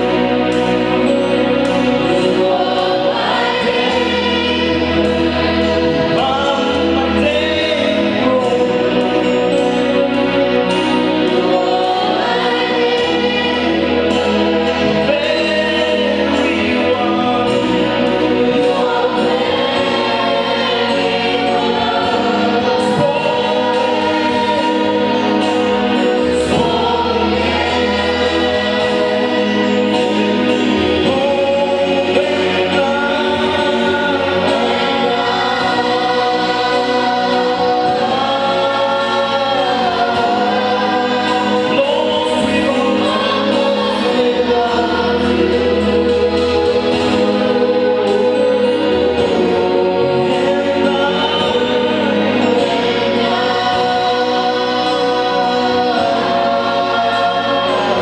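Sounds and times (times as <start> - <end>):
gospel choir singing: 0.0 - 58.0
instrumental accompaniment: 0.0 - 58.0.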